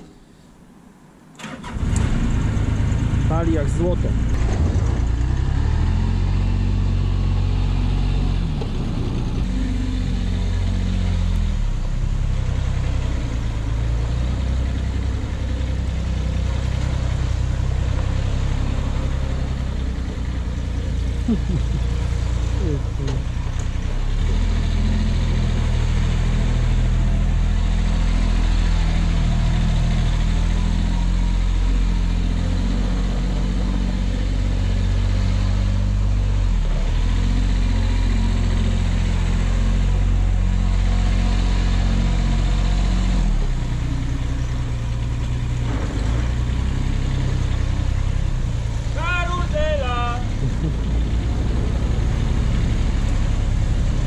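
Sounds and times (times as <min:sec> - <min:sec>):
diesel engine running: 0:01.4 - 0:54.0.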